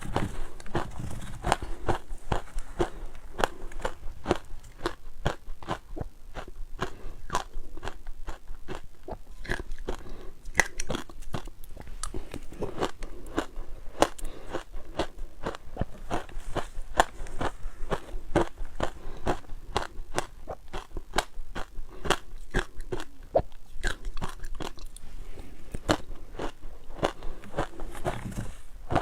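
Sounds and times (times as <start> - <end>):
ice cubes crunching being chewed: 0.0 - 25.1, 25.7 - 29.0.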